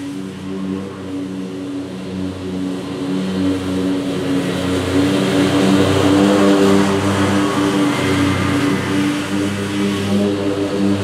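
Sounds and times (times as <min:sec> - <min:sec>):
lawn mower running: 0:00.0 - 0:11.0.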